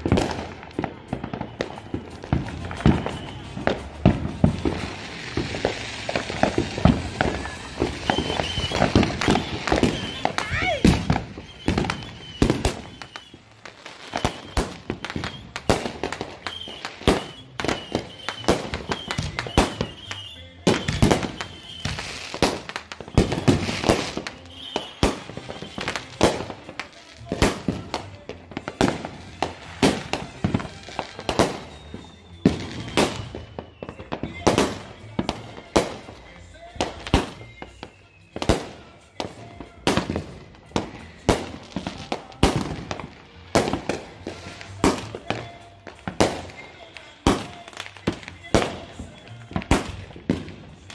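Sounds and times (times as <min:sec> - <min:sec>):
firecrackers banging: 0:00.0 - 0:50.9.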